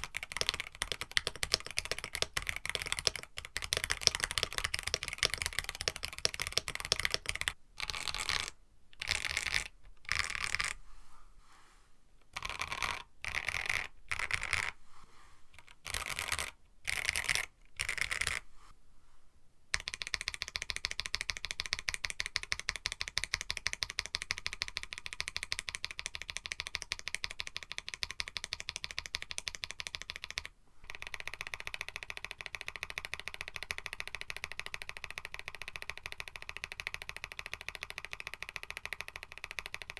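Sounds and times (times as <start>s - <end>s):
mechanical keyboard typing: 0.0s - 10.8s, 12.3s - 14.8s, 15.6s - 18.4s, 19.8s - 39.9s.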